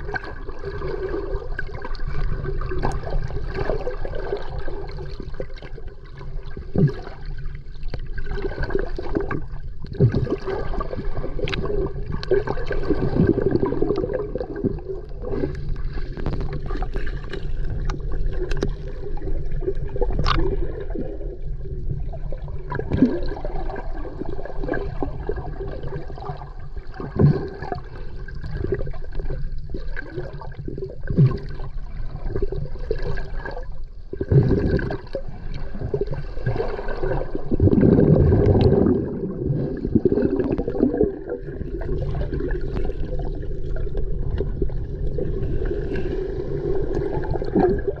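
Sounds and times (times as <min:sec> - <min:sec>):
low underwater rumble: 0:00.0 - 0:48.0
water bubbling and gurgling: 0:00.0 - 0:48.0.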